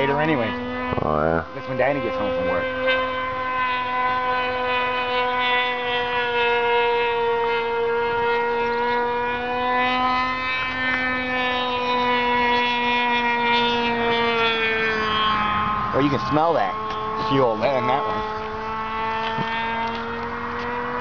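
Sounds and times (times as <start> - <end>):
model plane engine whining: 0.0 - 21.0.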